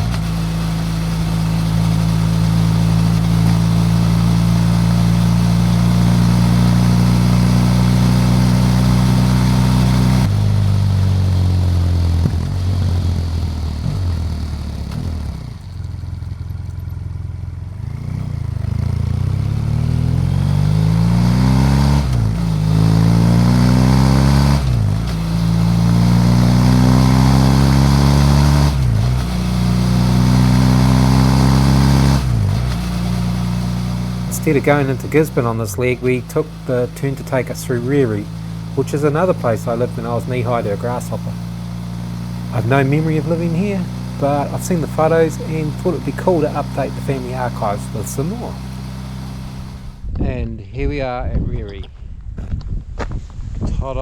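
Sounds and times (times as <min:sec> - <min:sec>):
motorcycle engine revving: 0:00.0 - 0:50.1.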